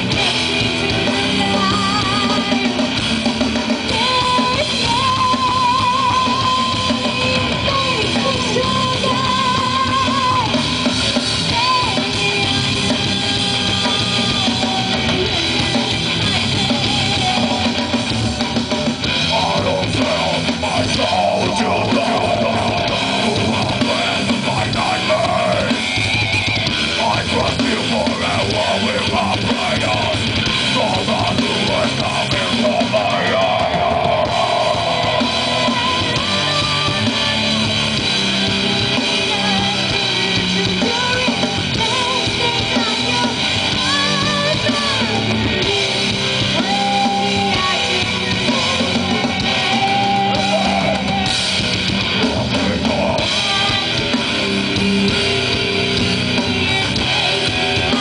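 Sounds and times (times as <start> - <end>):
person singing: 0.0 - 3.0, 3.8 - 10.8, 11.5 - 18.0, 19.2 - 25.9, 27.0 - 51.4, 52.4 - 56.0
rock band playing live: 0.0 - 58.0.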